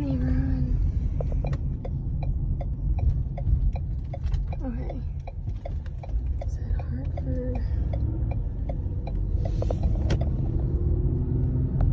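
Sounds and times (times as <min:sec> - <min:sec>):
road and engine rumble: 0:00.0 - 0:11.9
turn signal ticking: 0:00.0 - 0:11.9.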